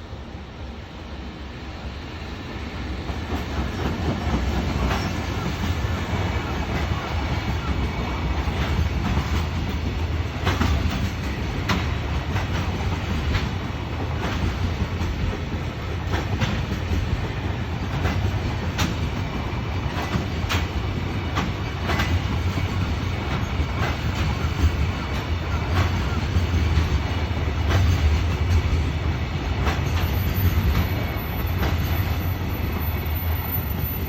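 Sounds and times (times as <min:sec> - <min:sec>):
freight train rumbling past: 0:00.0 - 0:34.0
wheels clacking over rail joints: 0:03.3 - 0:34.0.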